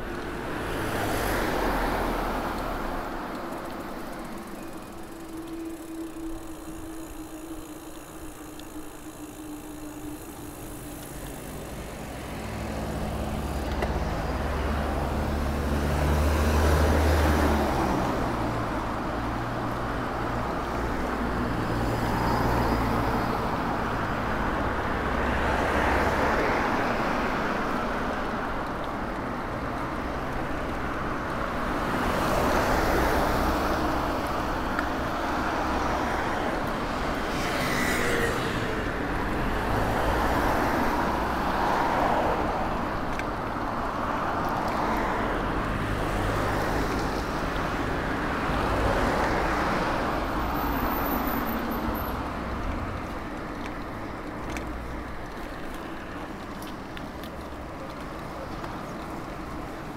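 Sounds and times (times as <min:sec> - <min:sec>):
cars passing by: 0:00.0 - 0:59.9.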